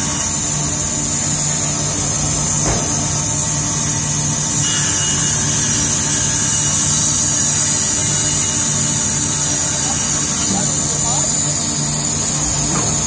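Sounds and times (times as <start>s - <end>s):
band saw cutting wood: 0.0s - 13.0s.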